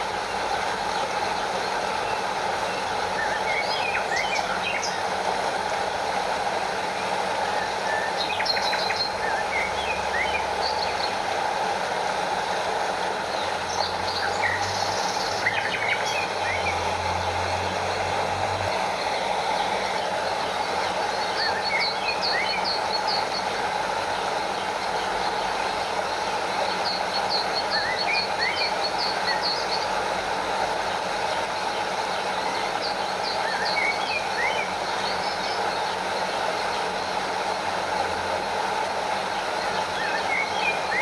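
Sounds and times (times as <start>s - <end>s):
small waterfall rushing: 0.0s - 41.0s
stream water flowing: 0.0s - 41.0s.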